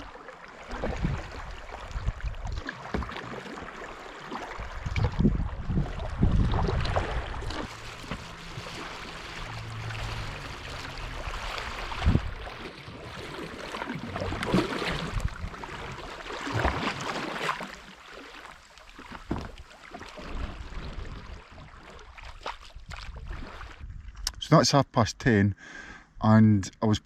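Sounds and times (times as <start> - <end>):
paddle strokes splashing: 0.0 - 23.8
water lapping: 0.0 - 24.3.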